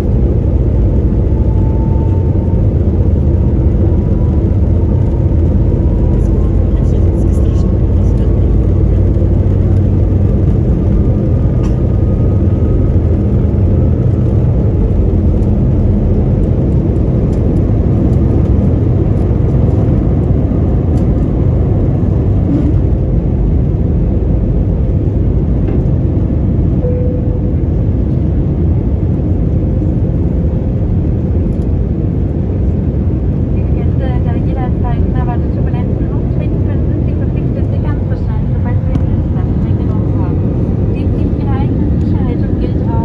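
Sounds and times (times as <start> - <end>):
jet engines rumbling in cabin: 0.0 - 43.0.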